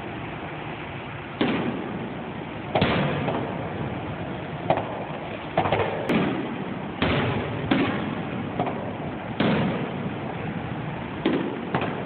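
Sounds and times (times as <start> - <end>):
fireworks booming with echo: 1.3 - 12.0.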